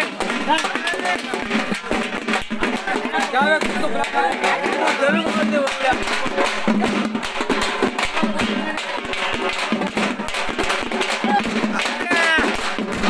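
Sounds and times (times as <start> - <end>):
crowd voices: 0.0 - 13.0
fast drumming: 0.0 - 13.0.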